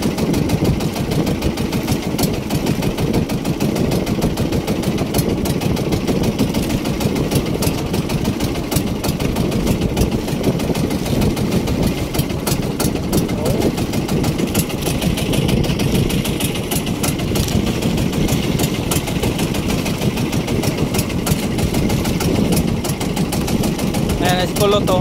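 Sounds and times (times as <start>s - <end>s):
small boat engine chugging: 0.0s - 25.0s.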